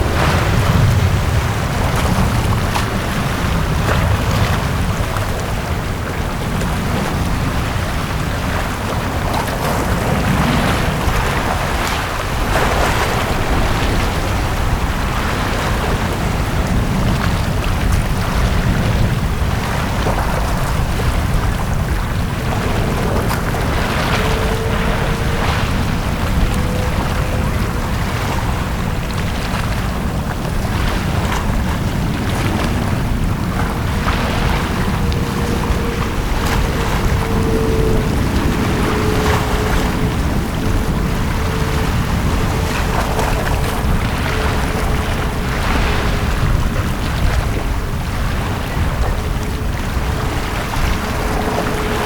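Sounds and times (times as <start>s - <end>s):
low rumble: 0.0s - 52.0s
waves washing onto beach: 0.0s - 52.0s.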